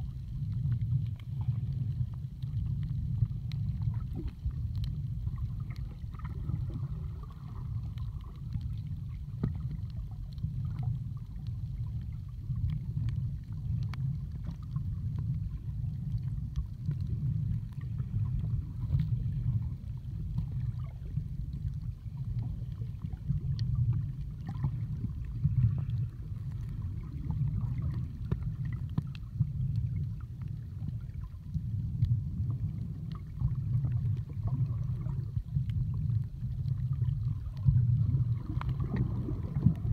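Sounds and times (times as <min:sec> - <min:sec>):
underwater rumble of moving water: 0:00.0 - 0:39.9
faint clicks: 0:00.2 - 0:39.9.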